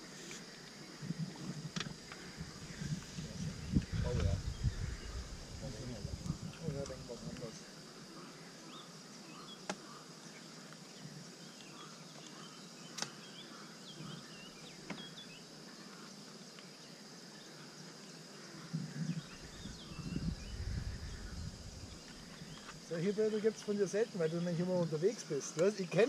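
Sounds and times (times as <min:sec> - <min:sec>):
high insect-like hum: 0:00.0 - 0:26.0
small birds chirping: 0:00.2 - 0:26.0.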